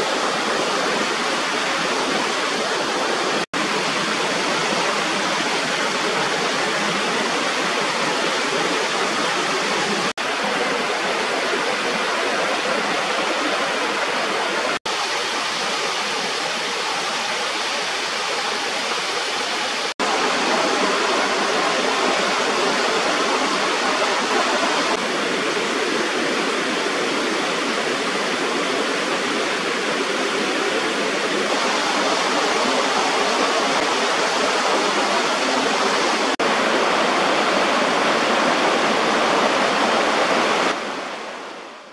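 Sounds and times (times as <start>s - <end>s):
small waterfall rushing: 0.0s - 41.9s.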